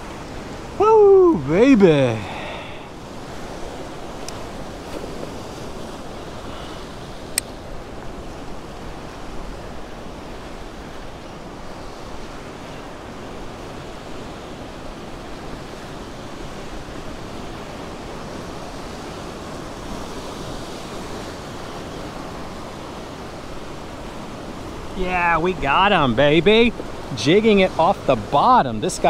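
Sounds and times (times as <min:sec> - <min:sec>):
small surf waves: 0:00.0 - 0:29.0.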